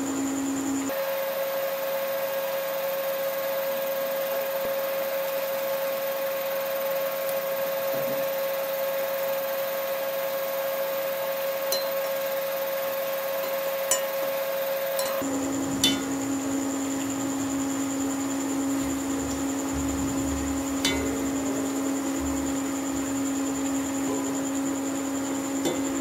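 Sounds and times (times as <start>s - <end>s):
induction cooktop hum: 0.0s - 26.0s
deep-frying sizzle: 0.9s - 26.0s.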